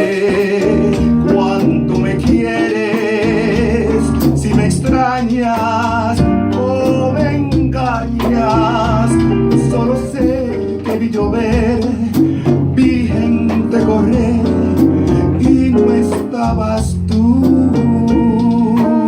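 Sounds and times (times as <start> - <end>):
latin jazz band playing: 0.0 - 19.0
man singing with vibrato: 0.0 - 19.0.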